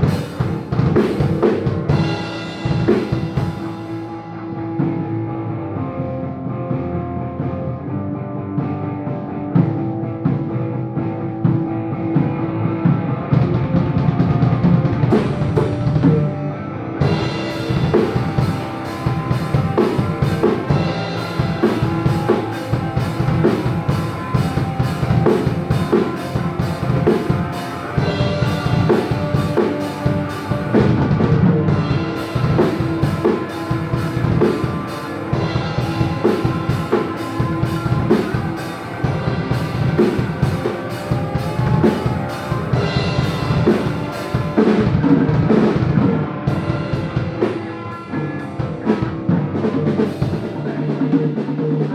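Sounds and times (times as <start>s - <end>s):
drum kit steady beat: 0.0s - 5.2s, 9.6s - 51.9s
electric guitars through amplifiers: 0.0s - 51.9s.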